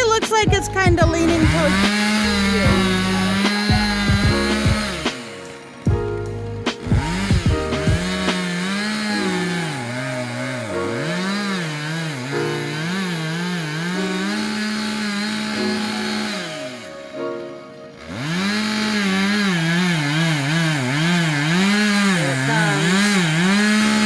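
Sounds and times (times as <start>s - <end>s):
chainsaw cutting tree trunk: 0.0s - 24.0s.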